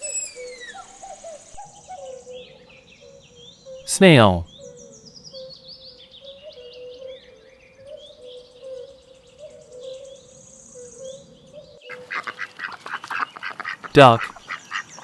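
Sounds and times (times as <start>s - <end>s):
songbirds chirping: 1.8s - 15.0s.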